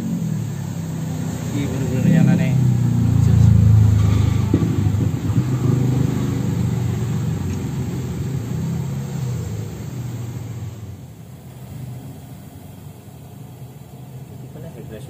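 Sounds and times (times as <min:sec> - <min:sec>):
gas burner flame roaring: 0:00.0 - 0:15.0.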